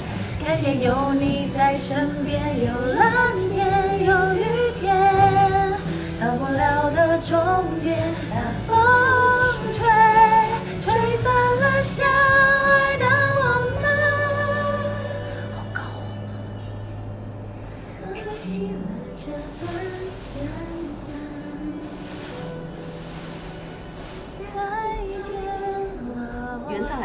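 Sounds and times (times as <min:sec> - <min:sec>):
woman singing with vibrato: 0:00.0 - 0:16.8, 0:17.9 - 0:27.0
low sustained accompaniment: 0:00.0 - 0:27.0.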